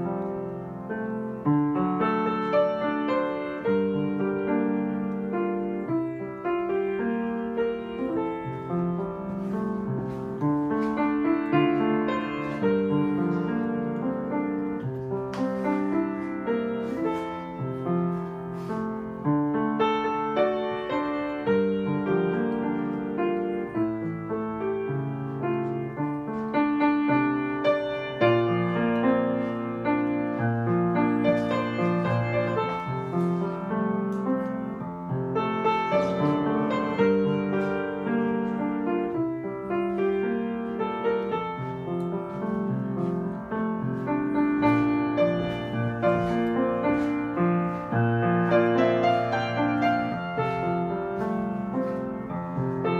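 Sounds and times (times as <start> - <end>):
piano music: 0.0 - 52.9.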